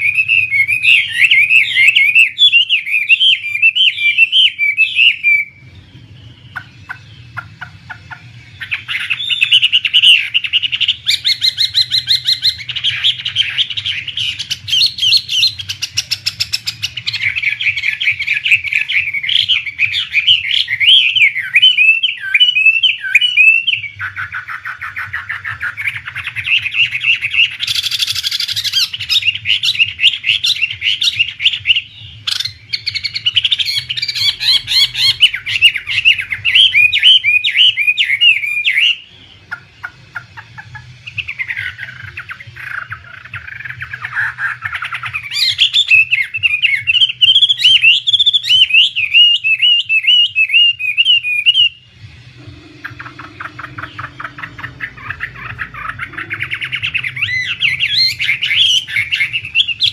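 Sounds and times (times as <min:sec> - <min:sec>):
songbird singing whistled trills: 0:00.0 - 0:59.9.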